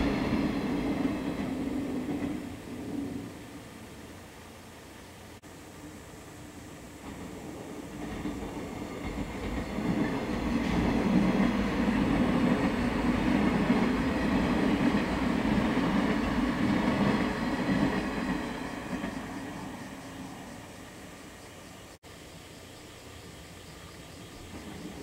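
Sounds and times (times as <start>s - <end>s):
train wheels rumbling on rails: 0.0s - 4.3s, 6.4s - 22.0s, 24.2s - 25.0s.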